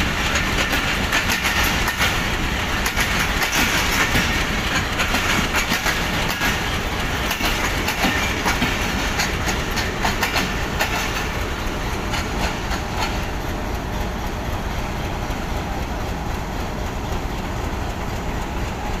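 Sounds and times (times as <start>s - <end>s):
diesel locomotive engine idling: 0.0s - 19.0s
train wheels clacking over rail joints: 0.0s - 19.0s.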